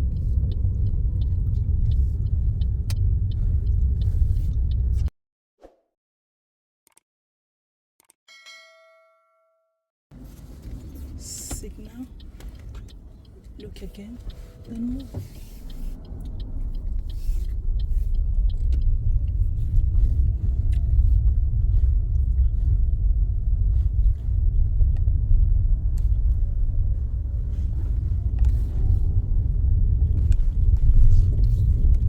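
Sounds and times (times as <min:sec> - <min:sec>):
car engine and road noise inside cabin: 0:00.0 - 0:05.1, 0:10.1 - 0:32.0.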